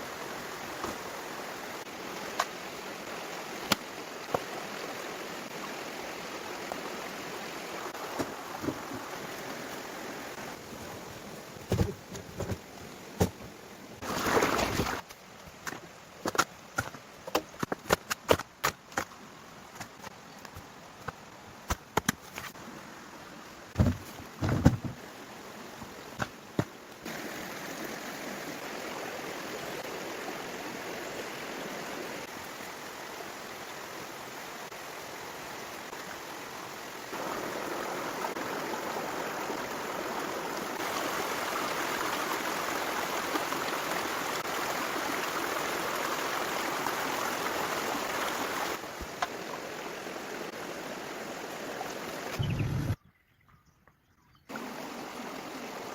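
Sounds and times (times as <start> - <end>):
running water: 0.0 - 17.7, 18.7 - 53.0, 54.5 - 55.9.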